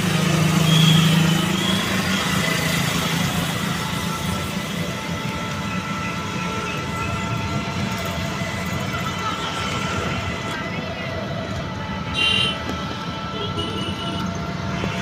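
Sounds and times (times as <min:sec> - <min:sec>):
engine hum: 0:00.0 - 0:15.0
passing traffic: 0:00.0 - 0:15.0.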